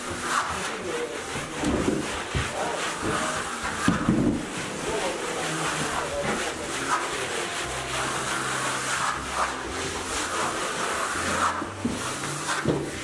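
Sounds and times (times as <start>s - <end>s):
spatula rubbing over plaster: 0.0s - 13.0s.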